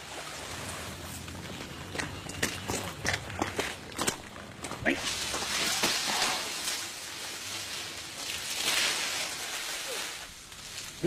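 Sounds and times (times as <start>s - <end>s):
palm fronds rustling: 0.0s - 1.9s, 4.0s - 11.0s.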